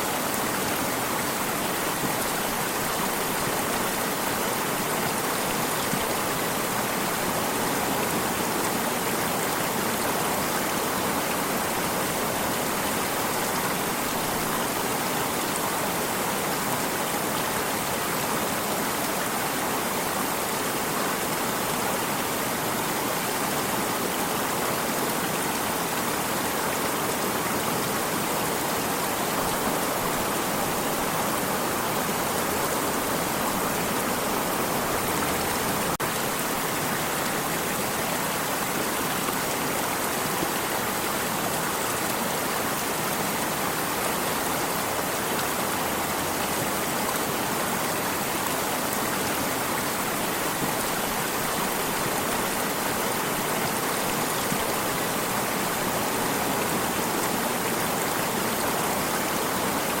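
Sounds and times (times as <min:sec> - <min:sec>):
water stream flowing: 0:00.0 - 1:00.0.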